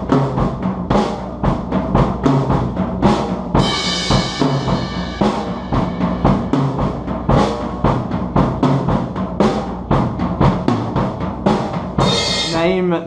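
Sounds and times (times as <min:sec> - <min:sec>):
drum kit playing: 0:00.0 - 0:13.0.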